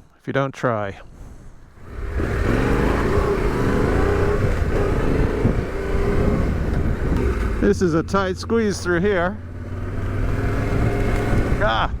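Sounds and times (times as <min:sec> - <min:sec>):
motorcycle engine pulling away: 0:01.8 - 0:11.8.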